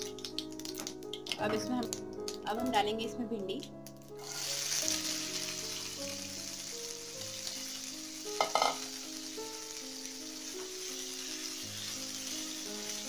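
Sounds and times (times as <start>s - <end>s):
okra sizzling in hot oil: 0.0s - 2.9s, 3.6s - 13.0s.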